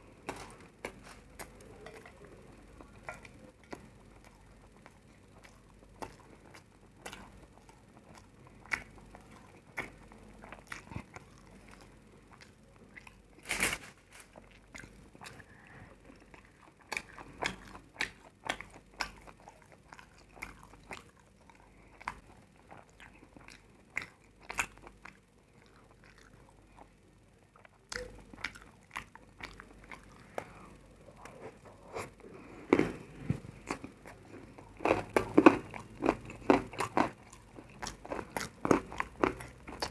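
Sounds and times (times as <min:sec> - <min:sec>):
person chewing crunchy food: 0:00.0 - 0:27.0, 0:27.6 - 0:39.9.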